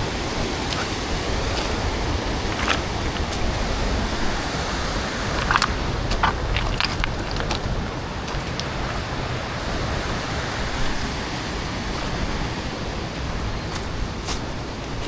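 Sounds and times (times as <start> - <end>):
mountain river rushing: 0.0 - 15.0.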